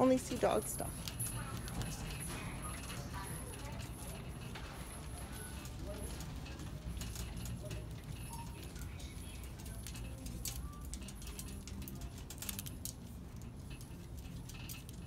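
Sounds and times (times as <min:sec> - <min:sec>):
cart frame rattling: 0:00.0 - 0:15.0
faint background music: 0:00.0 - 0:15.0
shopping cart wheels rumbling: 0:00.0 - 0:15.0.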